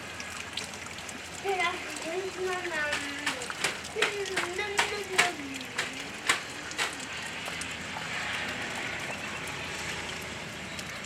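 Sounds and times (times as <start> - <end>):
heavy rain falling: 0.0 - 11.0
faint drip ticks: 0.2 - 11.0.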